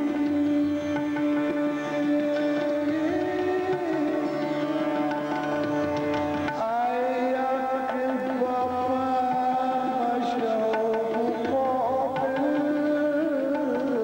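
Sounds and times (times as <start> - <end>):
man singing classical vocals: 0.0 - 5.0, 6.5 - 14.0
tabla: 0.0 - 14.0.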